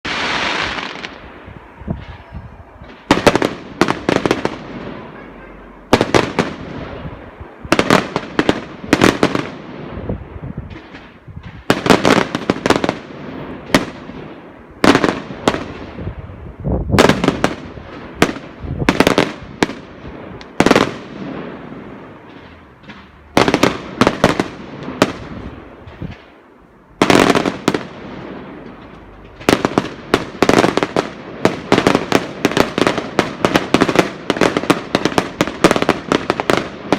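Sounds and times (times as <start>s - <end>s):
fireworks bangs: 0.0s - 36.9s
fireworks crackle: 0.0s - 36.9s.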